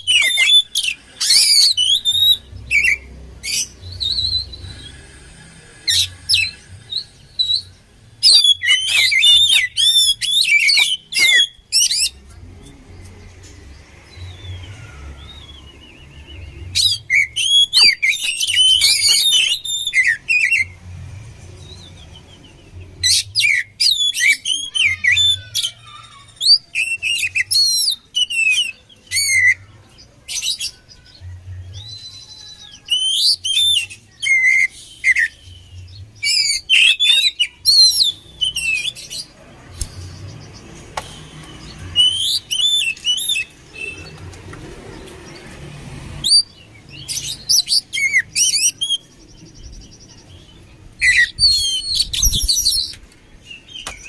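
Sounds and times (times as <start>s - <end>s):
songbird whistling and chattering: 0.0s - 12.2s, 13.9s - 20.8s, 21.6s - 29.7s, 30.3s - 44.2s, 46.2s - 54.0s.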